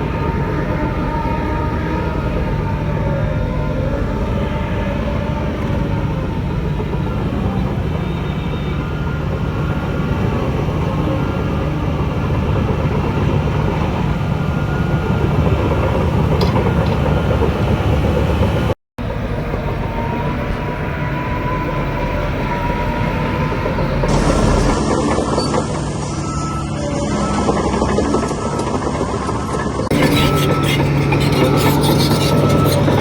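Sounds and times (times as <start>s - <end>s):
bulldozer diesel engine: 0.0s - 33.0s.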